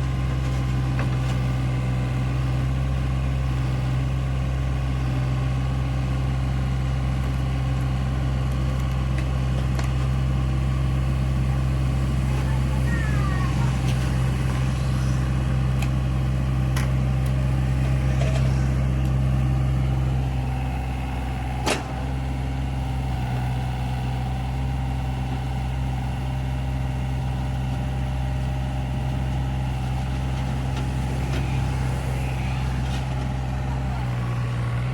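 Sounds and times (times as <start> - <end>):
heavy vehicle engine humming: 0.0 - 34.9.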